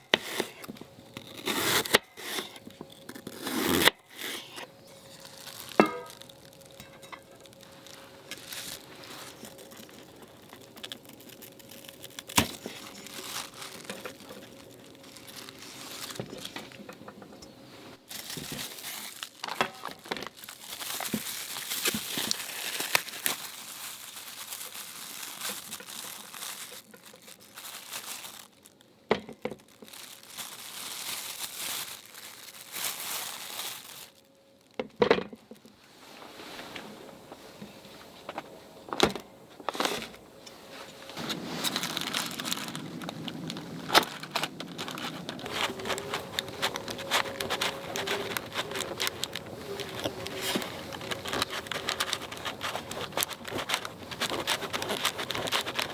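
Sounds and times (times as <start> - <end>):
crinkly material rustling: 0.0 - 55.9.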